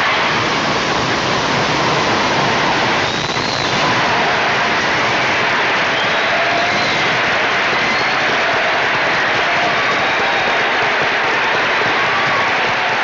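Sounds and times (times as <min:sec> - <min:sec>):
large audience applauding: 0:00.0 - 0:13.0.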